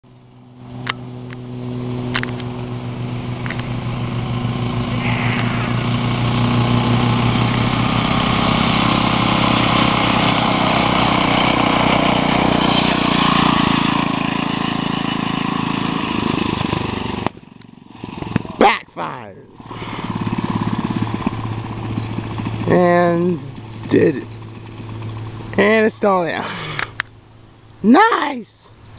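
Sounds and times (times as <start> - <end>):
mini bike engine running: 0.1 - 27.0.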